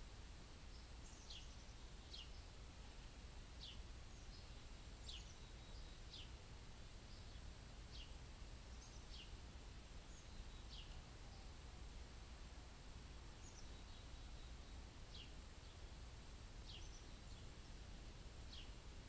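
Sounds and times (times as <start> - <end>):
faint bird chirping: 0.0 - 19.0
low outdoor background noise: 0.0 - 19.0.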